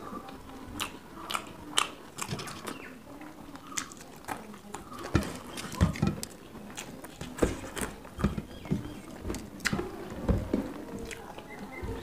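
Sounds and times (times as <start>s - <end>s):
chewing and mouth smacking: 0.1s - 10.0s, 10.9s - 11.8s.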